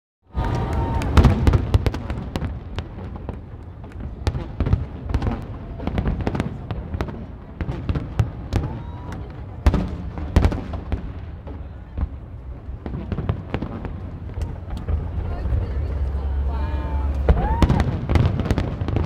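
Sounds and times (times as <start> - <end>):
firework bursts and crackles: 0.3 - 19.0.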